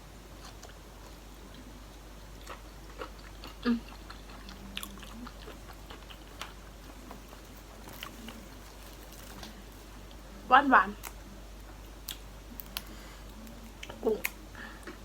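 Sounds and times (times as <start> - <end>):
person chewing food: 0.3 - 10.4, 11.0 - 15.0.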